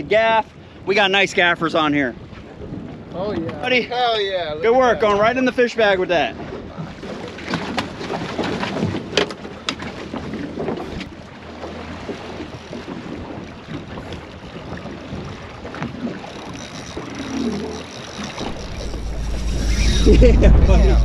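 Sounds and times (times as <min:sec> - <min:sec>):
water lapping against boat hull: 0:00.0 - 0:03.9, 0:04.6 - 0:21.0
wind buffeting microphone: 0:02.1 - 0:21.0.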